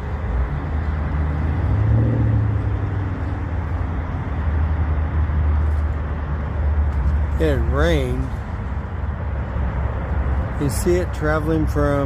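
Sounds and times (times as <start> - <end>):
car engine and road rumble: 0.0 - 12.0
pitched engine hum: 0.0 - 12.0.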